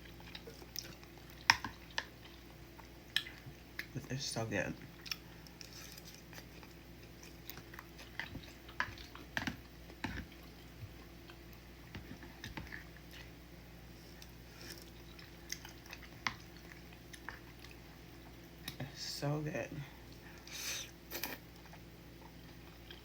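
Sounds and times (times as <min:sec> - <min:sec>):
person chewing and slurping noodles: 0:00.0 - 0:03.9, 0:04.9 - 0:13.4, 0:14.0 - 0:18.8, 0:20.4 - 0:23.0.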